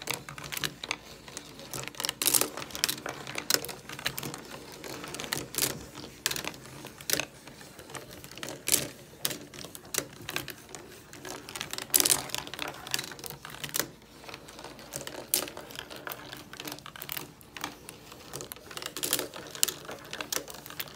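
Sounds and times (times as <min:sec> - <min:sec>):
steel marbles clicking on wood: 0:00.0 - 0:20.9.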